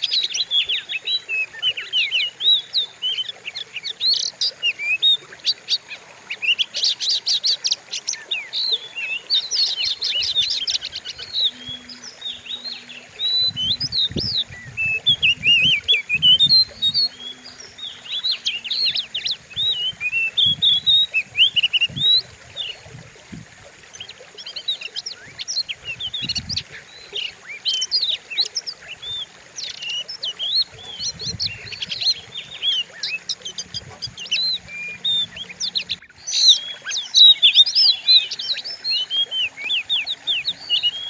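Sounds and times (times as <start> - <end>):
bird singing trills and whistles: 0.0 - 22.9, 23.9 - 41.0.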